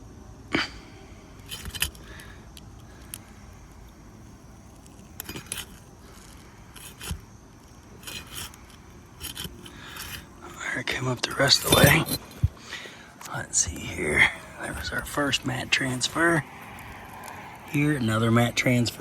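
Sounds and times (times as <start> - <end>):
metal tool scraping shingle: 1.3 - 19.0.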